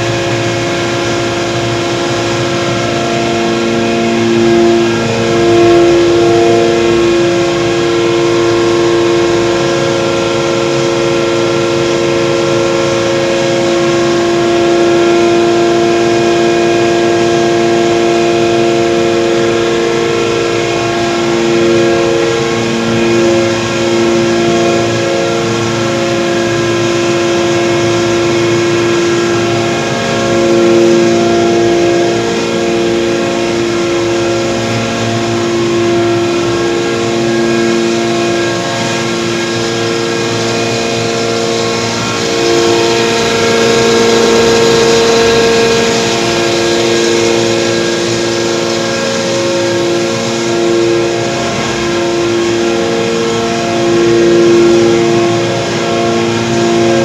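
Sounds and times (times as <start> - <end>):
grinding machine humming: 0.0 - 57.0.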